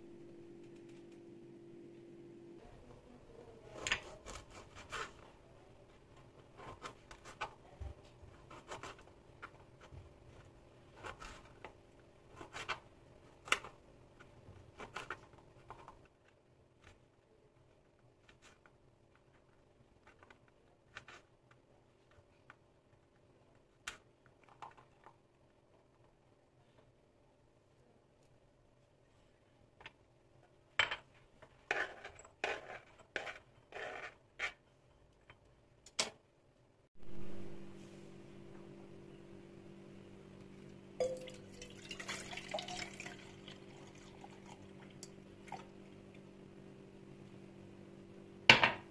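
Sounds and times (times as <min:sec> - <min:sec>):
faint steady hum: 0:00.0 - 0:31.6, 0:33.2 - 0:48.9.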